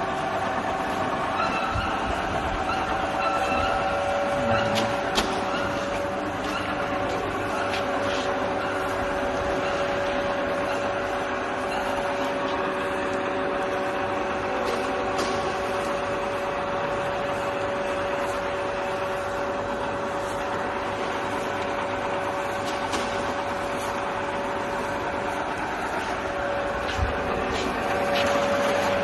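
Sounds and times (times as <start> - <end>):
milling machine humming and whining: 0.0 - 29.0.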